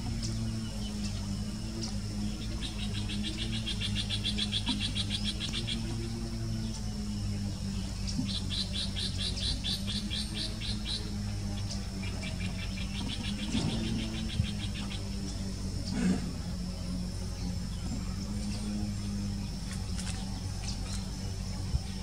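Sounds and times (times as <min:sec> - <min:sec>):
animal pulsing trill: 0:00.0 - 0:22.0
steady low hum: 0:00.0 - 0:22.0.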